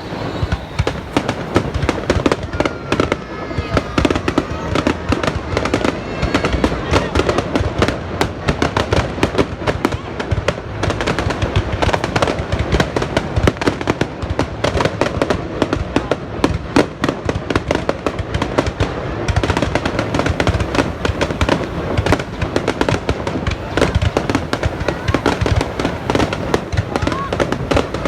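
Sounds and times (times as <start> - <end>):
fireworks crackling and bursting: 0.0 - 28.0.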